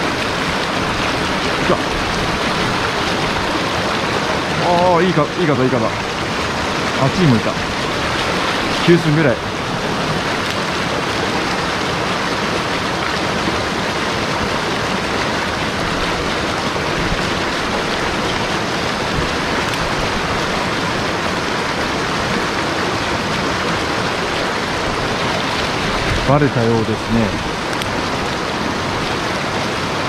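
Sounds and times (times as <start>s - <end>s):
mountain stream rushing: 0.0s - 30.0s.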